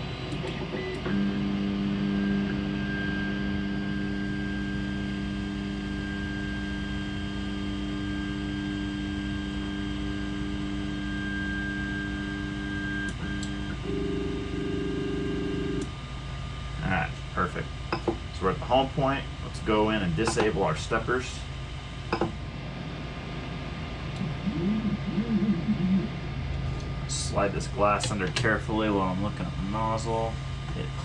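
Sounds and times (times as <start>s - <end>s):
stepper motors humming: 0.0s - 16.0s, 16.9s - 31.0s.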